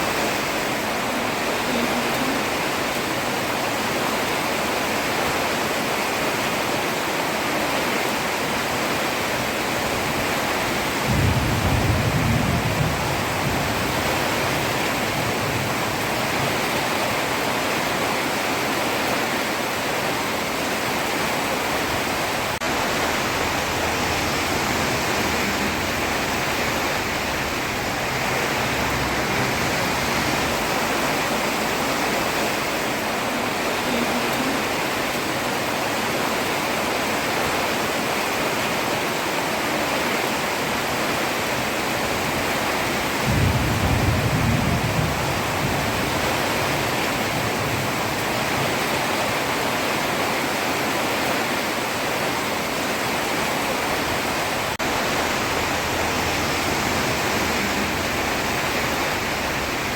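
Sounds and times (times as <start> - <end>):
heavy rain on a road: 0.0 - 59.9.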